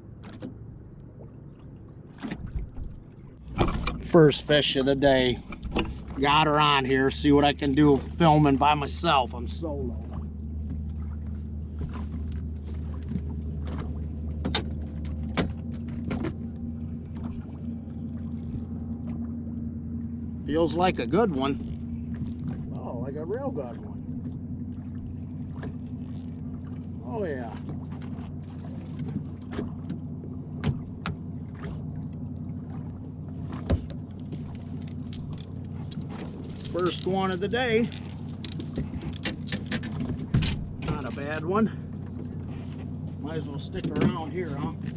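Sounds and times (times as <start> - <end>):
boat motor humming: 0.0 - 44.9.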